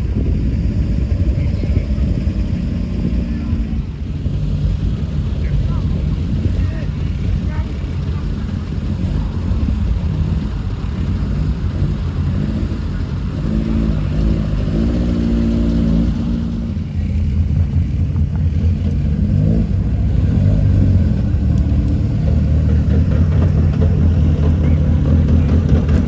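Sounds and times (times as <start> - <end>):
car engine rumbling and revving: 0.0 - 26.0.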